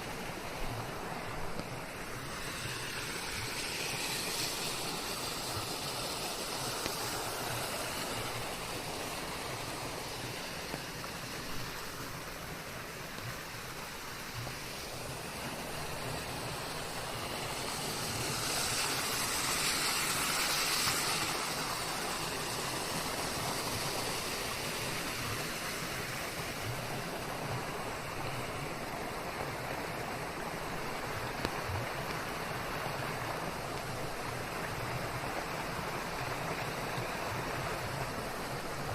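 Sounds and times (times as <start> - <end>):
rain falling on leaves: 0.2 - 13.8, 14.8 - 38.9.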